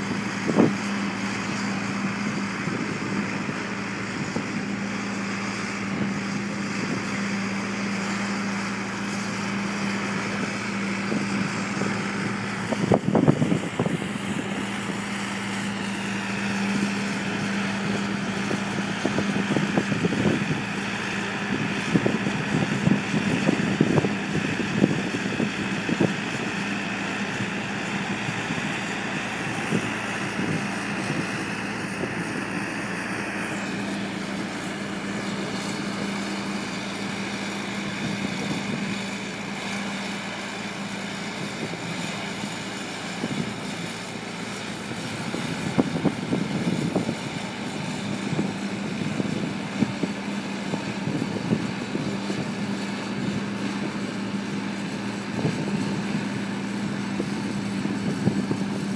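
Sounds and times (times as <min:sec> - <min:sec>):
boat engine humming: 0:00.0 - 0:58.9.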